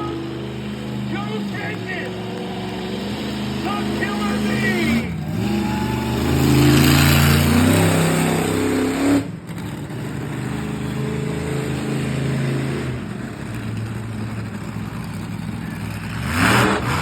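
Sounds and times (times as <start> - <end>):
monster truck engine running: 0.0 - 17.0.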